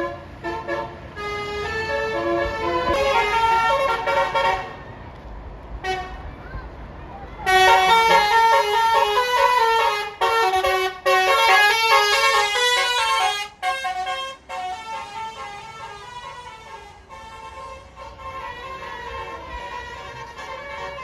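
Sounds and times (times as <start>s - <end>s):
multi-tone musical air horn: 0.0s - 4.8s, 7.5s - 21.0s.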